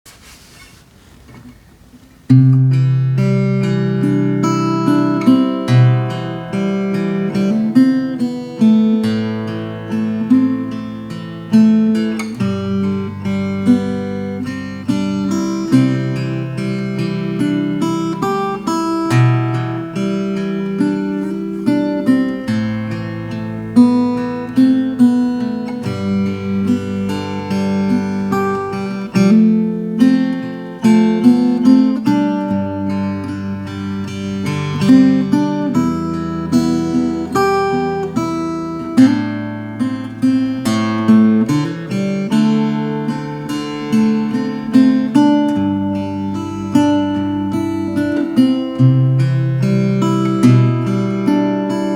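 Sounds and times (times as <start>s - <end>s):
acoustic guitar melody: 0.1s - 51.9s.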